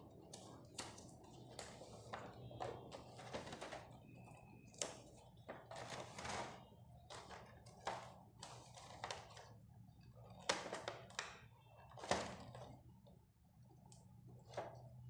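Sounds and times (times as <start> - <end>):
packaging being handled and opened: 0.1 - 12.8.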